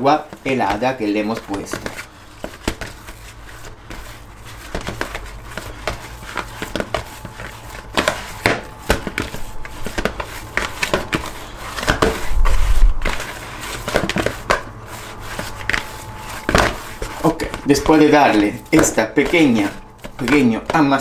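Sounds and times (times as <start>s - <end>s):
dough kneaded by hand: 0.0s - 21.0s.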